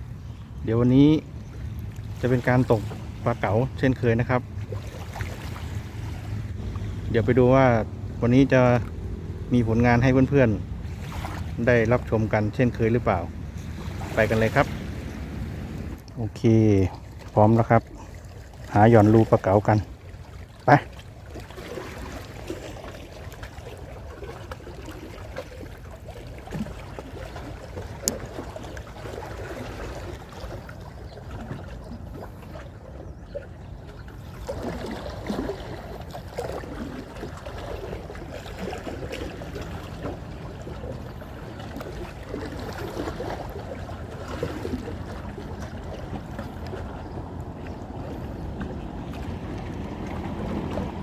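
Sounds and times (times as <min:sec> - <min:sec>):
sea water lapping and sloshing: 0:00.0 - 0:51.0.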